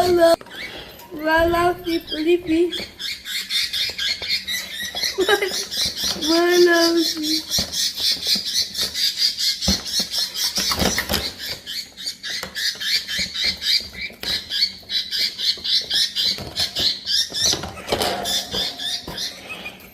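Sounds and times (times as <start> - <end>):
pet bird chirping: 0.0 - 19.9.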